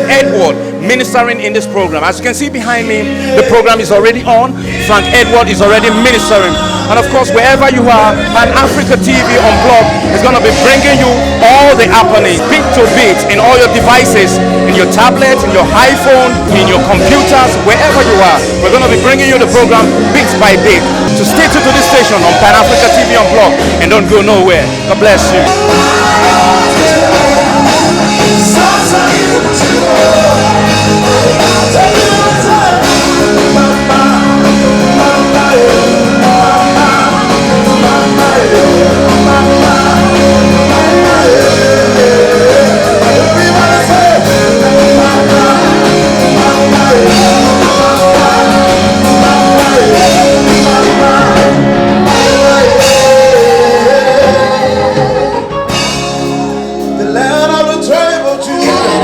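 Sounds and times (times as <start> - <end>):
live gospel band: 0.0 - 59.0
person singing: 0.0 - 59.0.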